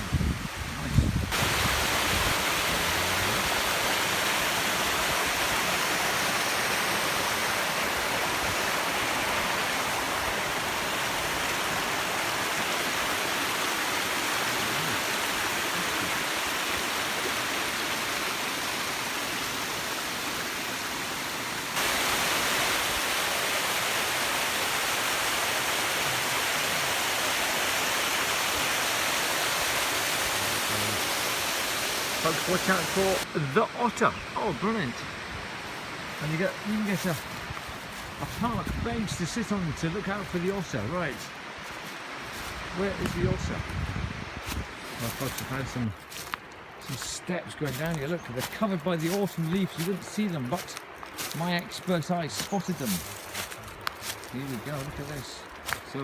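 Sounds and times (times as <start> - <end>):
waterfall rushing: 0.0 - 43.7, 44.4 - 56.0.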